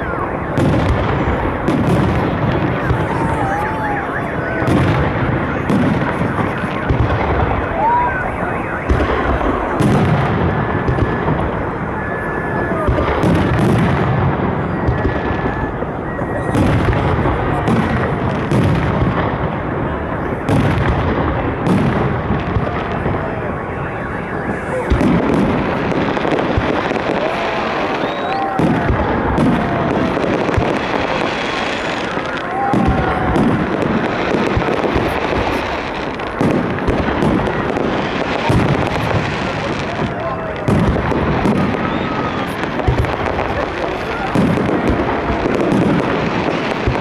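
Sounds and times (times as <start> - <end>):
deep fireworks bangs: 0.0 - 47.0
fireworks crackling: 0.0 - 47.0.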